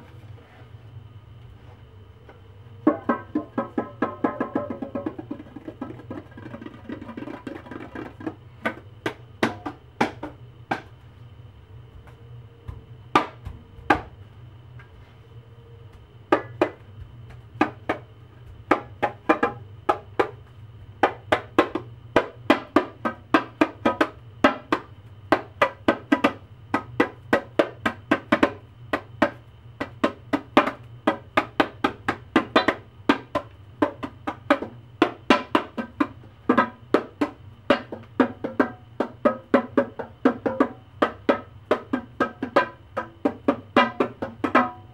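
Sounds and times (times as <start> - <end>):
hand drum slapped by hands: 2.8 - 10.9, 12.0 - 14.1, 16.3 - 20.4, 21.0 - 44.9.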